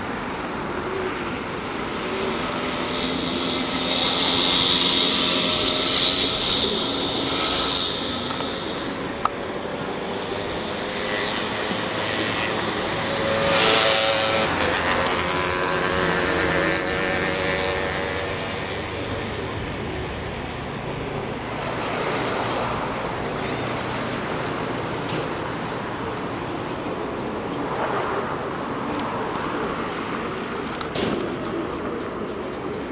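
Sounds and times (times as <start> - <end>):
traffic or aircraft rumble: 0.0 - 32.9.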